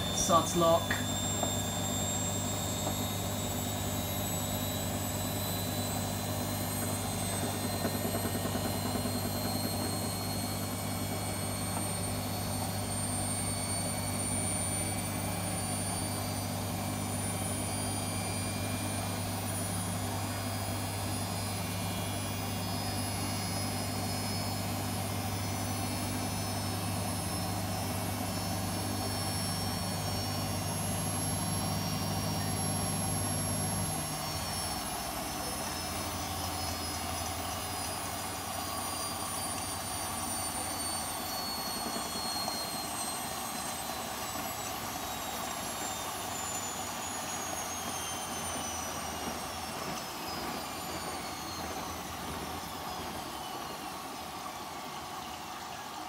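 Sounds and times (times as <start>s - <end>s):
faint high whine: 0.0s - 56.0s
washing machine humming: 0.0s - 56.0s.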